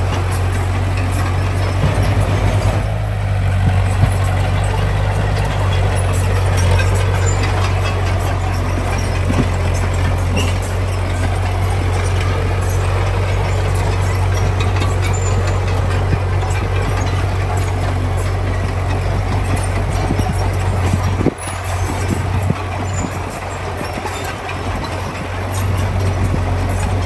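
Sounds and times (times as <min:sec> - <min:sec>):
heavy diesel engine running: 0:00.0 - 0:27.0
small clicks and clanks: 0:00.0 - 0:27.0.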